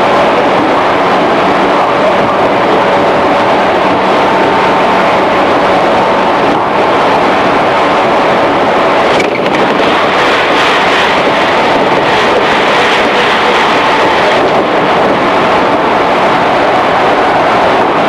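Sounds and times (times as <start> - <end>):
traction motor hum and whine: 0.0 - 18.0
train wheels rumbling on rails: 0.0 - 18.0.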